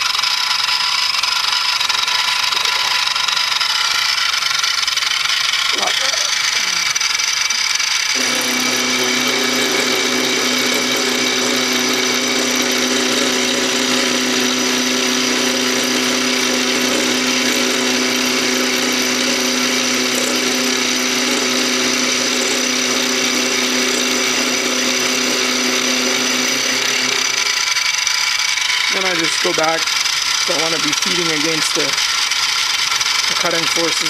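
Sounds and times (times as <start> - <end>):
metal cutting noise: 0.0 - 34.0
mill spindle whine: 0.0 - 34.0.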